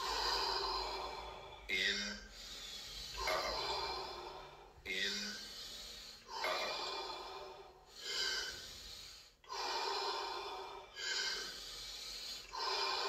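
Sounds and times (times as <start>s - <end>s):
man breathing rapidly: 0.0s - 13.0s.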